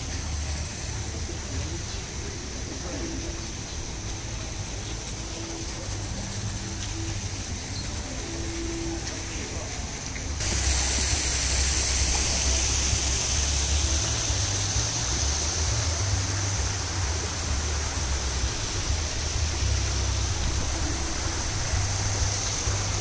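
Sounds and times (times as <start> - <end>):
steady rushing outdoor noise: 0.0 - 23.0.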